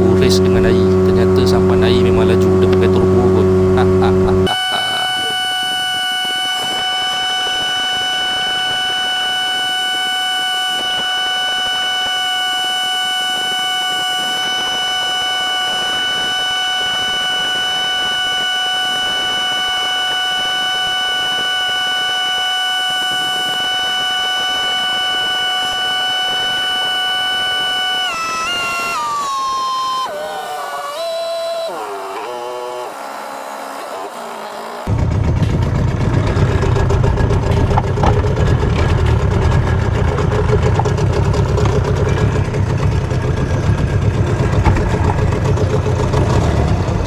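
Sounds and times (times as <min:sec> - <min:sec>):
outboard motor whine: 0:00.0 - 0:47.0.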